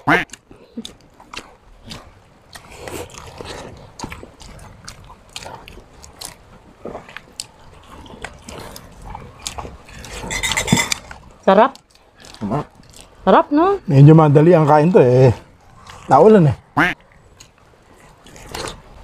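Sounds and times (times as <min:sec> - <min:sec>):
people chewing and lip-smacking: 0:00.0 - 0:13.3, 0:14.5 - 0:19.0.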